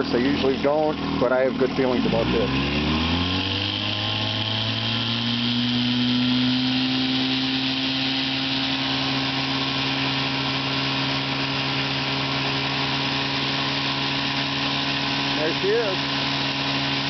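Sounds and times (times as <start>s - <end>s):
outboard motor at high throttle: 0.0s - 17.0s.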